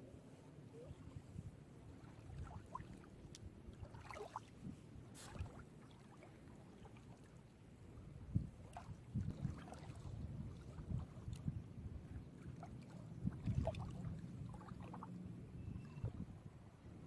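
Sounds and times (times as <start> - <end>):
gentle waves lapping at shore: 0.2 - 11.5, 12.1 - 15.4.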